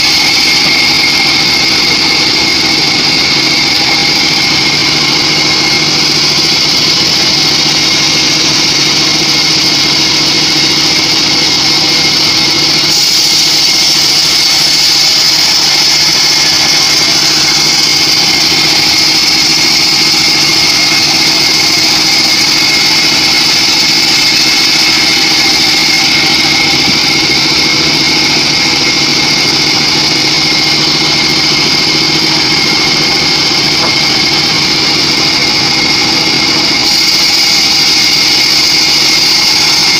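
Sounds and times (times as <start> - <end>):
band sawmill whine: 0.0 - 39.9.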